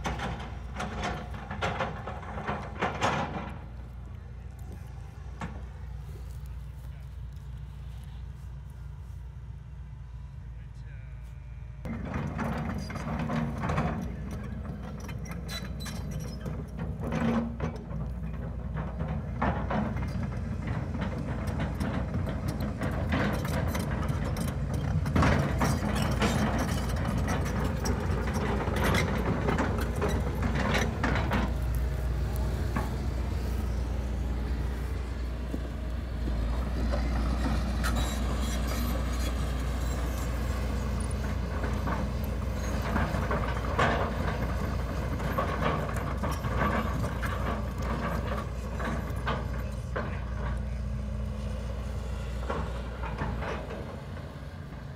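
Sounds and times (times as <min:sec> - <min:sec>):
bucket and tracks clanking: 0:00.0 - 0:08.6, 0:11.8 - 0:54.9
excavator diesel engine running: 0:00.0 - 0:54.9.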